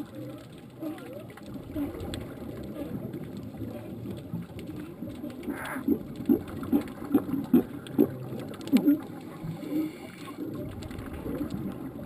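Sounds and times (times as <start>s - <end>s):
underwater low rumble: 0.0s - 12.0s.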